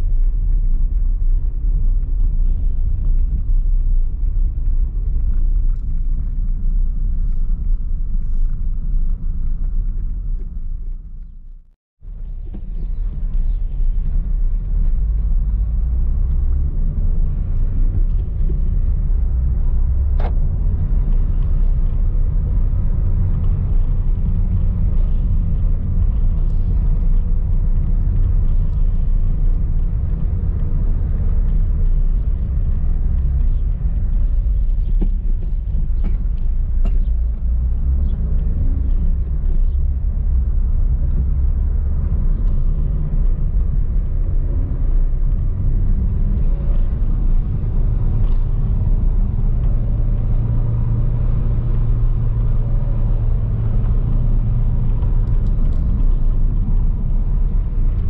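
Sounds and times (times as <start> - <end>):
car driving rumble from cabin: 0.0 - 58.0.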